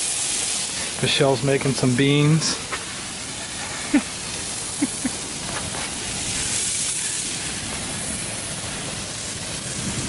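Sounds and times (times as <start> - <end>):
steady hissing noise: 0.0 - 10.0.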